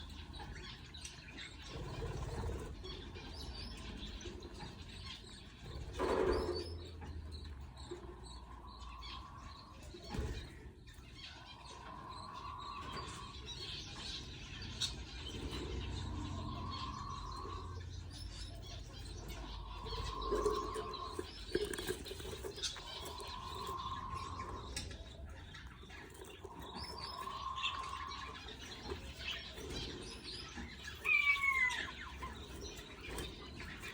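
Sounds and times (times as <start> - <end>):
budgerigars chirping: 0.0 - 33.9
chicks cheeping: 0.0 - 33.9.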